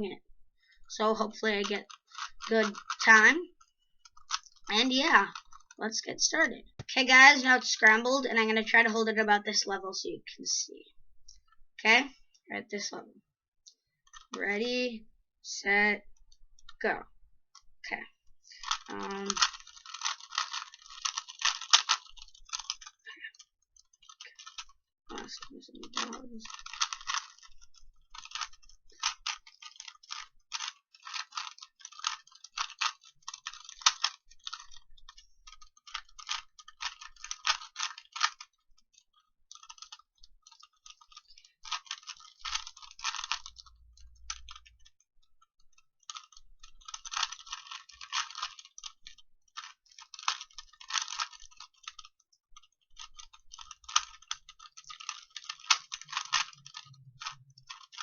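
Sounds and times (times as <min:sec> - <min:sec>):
puzzle cube clicking and rattling: 0:00.8 - 0:09.9, 0:14.0 - 0:14.8, 0:15.7 - 0:17.7, 0:18.4 - 0:58.0.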